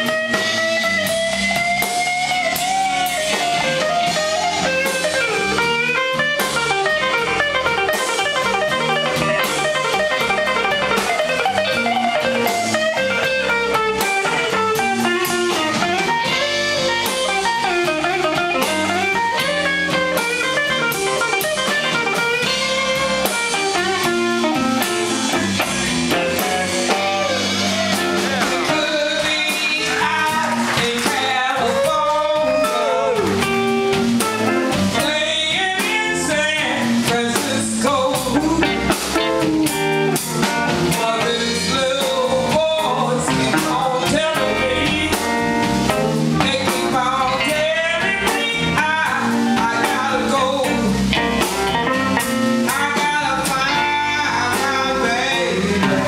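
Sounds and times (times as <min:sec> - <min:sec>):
electric guitar solo: 0:00.0 - 0:56.0
live blues band playing: 0:00.0 - 0:56.0.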